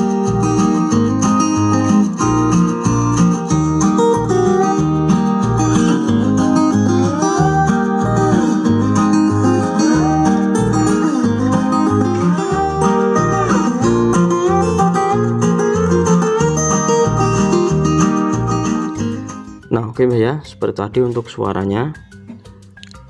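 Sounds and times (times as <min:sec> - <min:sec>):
steady bass beat: 0:00.0 - 0:19.4
acoustic guitar song: 0:00.0 - 0:23.0.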